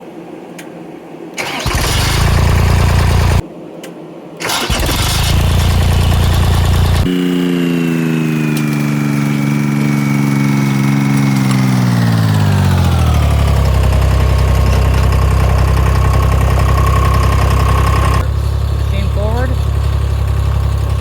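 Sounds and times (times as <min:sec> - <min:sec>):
stump grinder engine: 0:01.4 - 0:03.4, 0:04.4 - 0:21.0.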